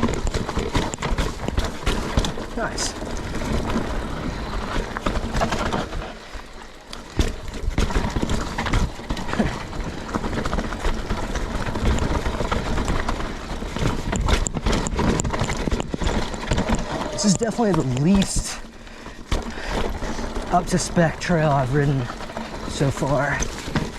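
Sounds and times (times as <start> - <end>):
bike clattering over rocks: 0.0 - 23.9.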